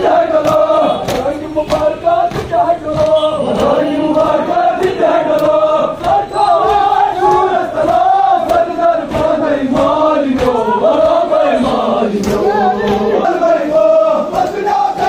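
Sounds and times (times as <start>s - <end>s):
men chanting in unison: 0.0s - 15.0s
sharp rhythmic beats: 0.0s - 15.0s.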